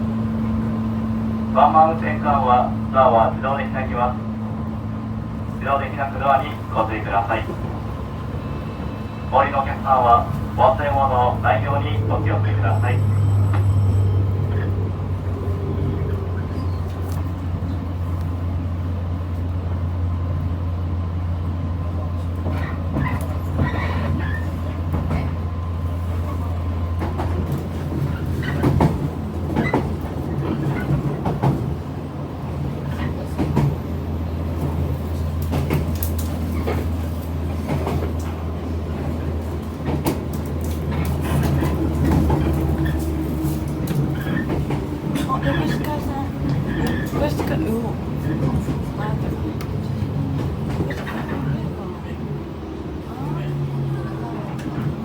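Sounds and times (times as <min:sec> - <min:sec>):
train low hum: 0:00.0 - 0:55.0.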